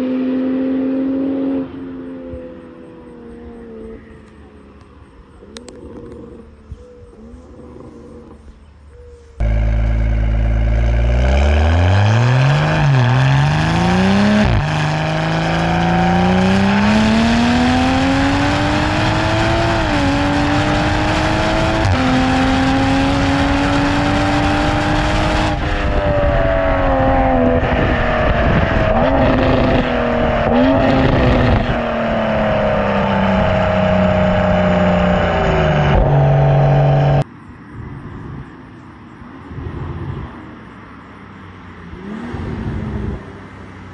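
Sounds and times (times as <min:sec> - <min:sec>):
car exhaust while driving: 0:00.0 - 0:37.3.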